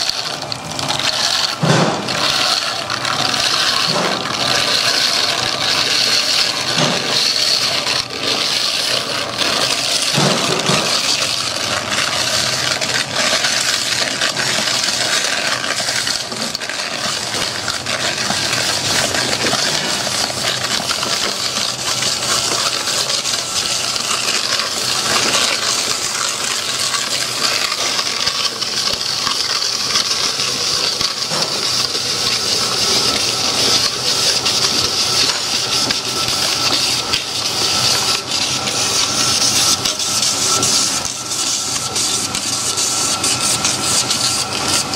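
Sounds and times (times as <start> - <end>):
cement mix clicking against bucket: 0.0 - 44.9
paddle mixer churning cement: 0.0 - 44.9.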